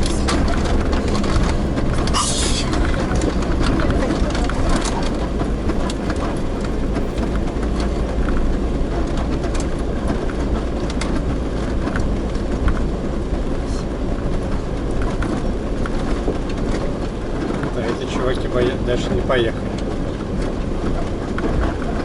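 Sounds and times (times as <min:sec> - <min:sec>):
vehicle rattles and knocks: 0:00.0 - 0:18.6
engine and tyres rumbling: 0:00.0 - 0:22.0.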